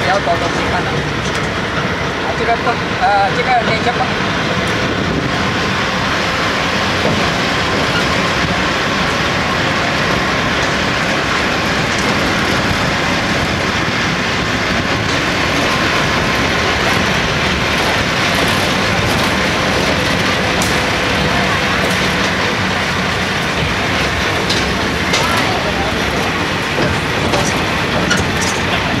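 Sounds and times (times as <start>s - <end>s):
faint constant whine: 0.0s - 29.0s
road tram running: 0.0s - 29.0s
tyres on paved road: 0.0s - 29.0s.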